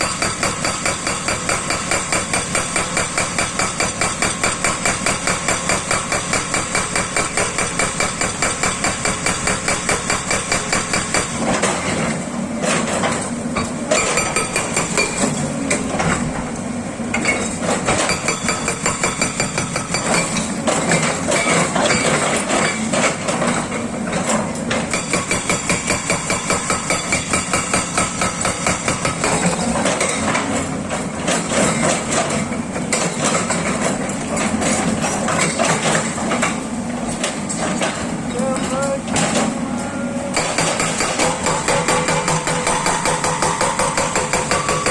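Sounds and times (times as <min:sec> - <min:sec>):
hydraulic rock breaker hammering: 0:00.0 - 0:16.4, 0:17.1 - 0:38.2, 0:40.3 - 0:44.9.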